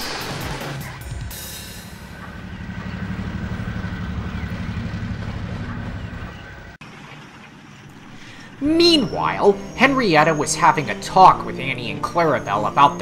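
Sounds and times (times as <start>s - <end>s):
diesel engine throbbing: 0.0s - 6.8s, 7.8s - 13.0s.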